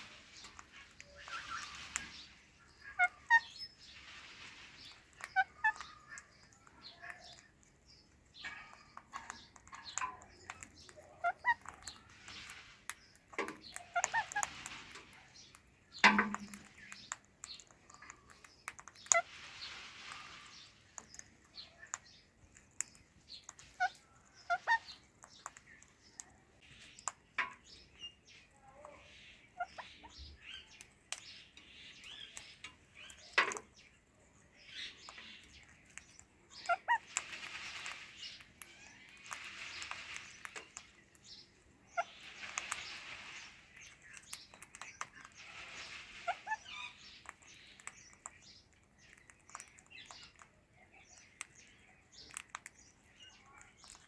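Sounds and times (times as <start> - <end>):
parakeets chirping and squawking: 0.0 - 54.0.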